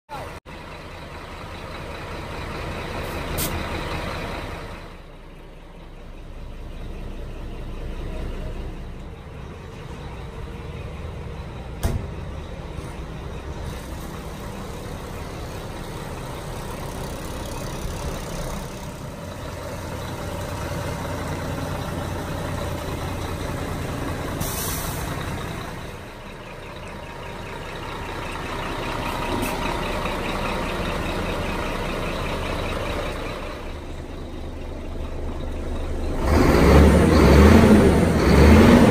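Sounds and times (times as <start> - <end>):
diesel truck engine idling: 0.1 - 38.9.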